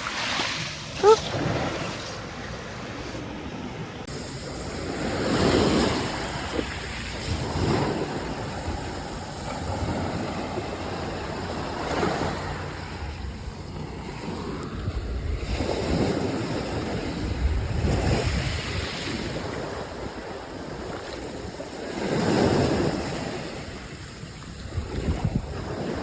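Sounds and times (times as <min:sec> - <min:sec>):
small waves breaking on shore: 0:00.0 - 0:26.0.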